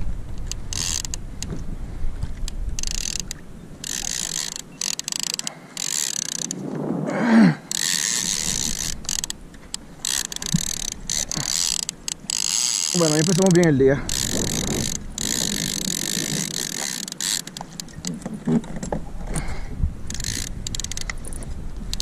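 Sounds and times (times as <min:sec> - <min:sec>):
fishing reel whirring and clicking: 0:00.3 - 0:01.6, 0:02.5 - 0:06.6, 0:07.7 - 0:18.2, 0:19.3 - 0:22.0.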